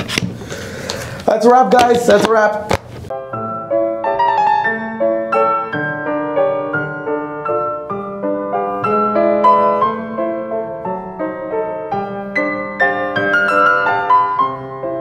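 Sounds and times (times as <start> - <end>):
piano music: 1.3 - 15.0.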